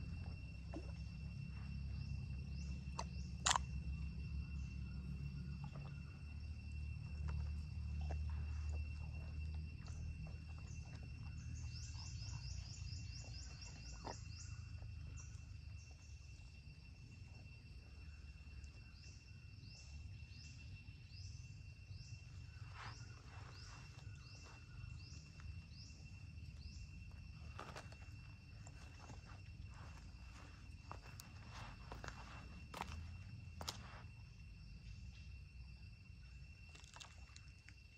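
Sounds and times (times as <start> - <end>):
insect drone: 0.0 - 37.9.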